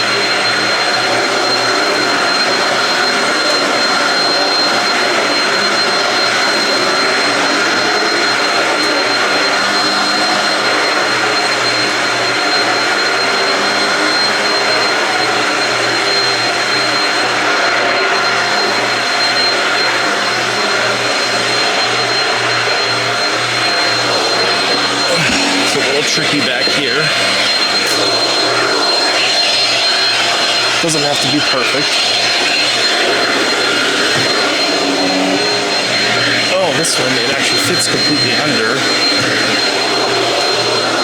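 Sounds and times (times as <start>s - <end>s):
vacuum cleaner motor whine: 0.0s - 41.0s.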